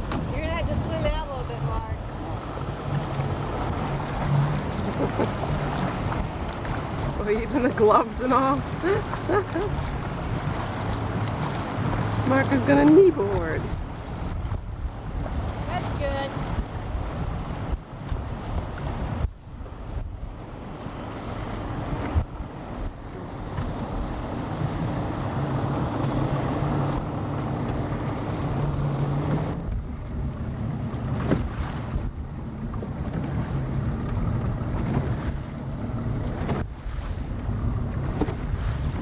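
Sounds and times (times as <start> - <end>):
motorboat engine running: 0.0 - 39.0
wind buffeting microphone: 0.0 - 39.0.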